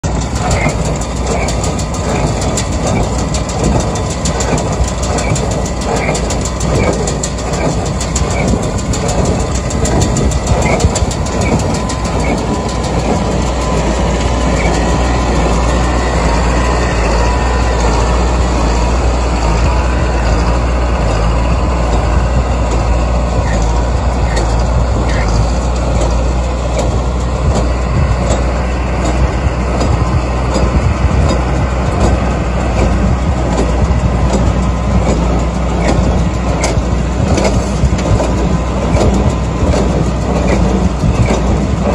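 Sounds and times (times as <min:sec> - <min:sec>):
baling mechanism clatter: 0:00.0 - 0:41.9
engine rumble: 0:00.0 - 0:41.9.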